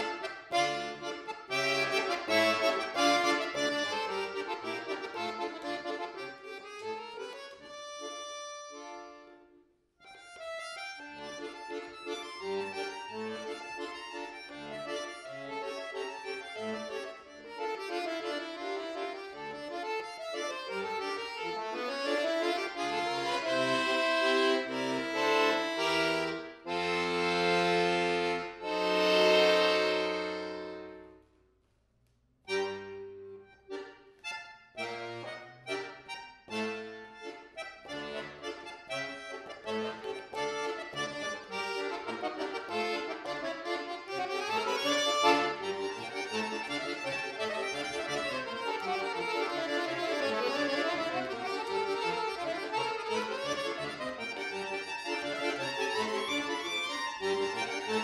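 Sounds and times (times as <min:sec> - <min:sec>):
button accordion playing: 0:00.0 - 0:31.4, 0:32.5 - 0:58.0.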